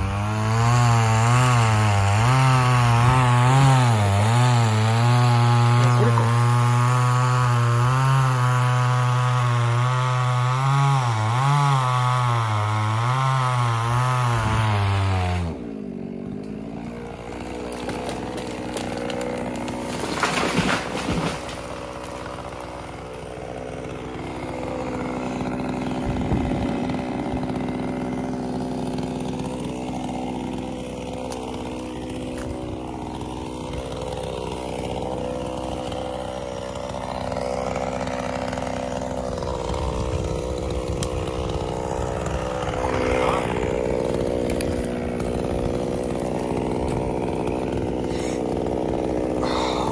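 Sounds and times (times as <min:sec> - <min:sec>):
chainsaw running loud: 0:00.0 - 0:49.9
chainsaw running quietly: 0:02.2 - 0:08.4, 0:13.0 - 0:49.9.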